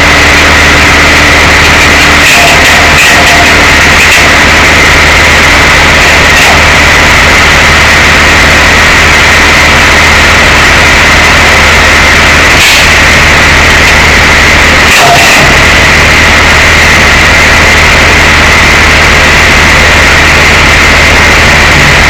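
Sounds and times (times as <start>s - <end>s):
truck engine running loud: 0.0s - 22.0s.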